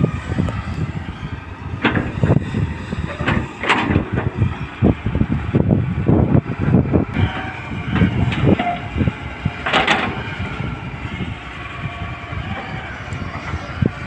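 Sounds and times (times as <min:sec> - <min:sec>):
excavator diesel engine under load: 0:00.0 - 0:14.0.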